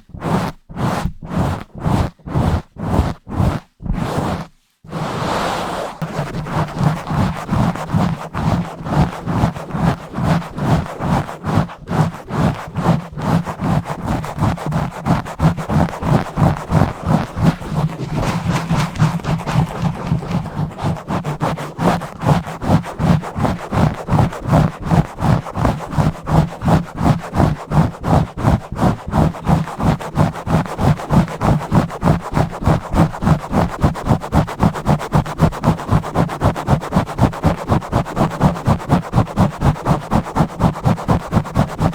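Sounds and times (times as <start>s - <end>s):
fingers scratching microphone grille: 0.0s - 41.9s.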